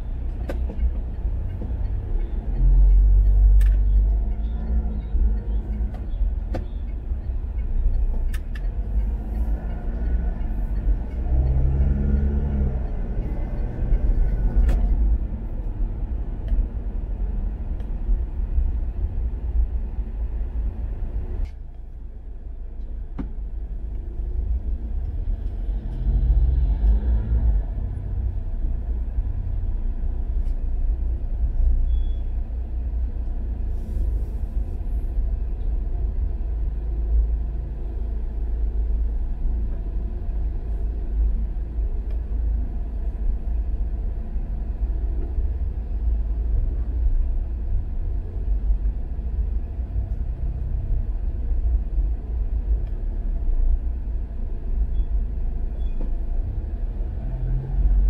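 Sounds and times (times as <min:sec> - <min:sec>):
car engine rumble: 0:00.0 - 0:58.0
road noise inside car: 0:00.0 - 0:58.0.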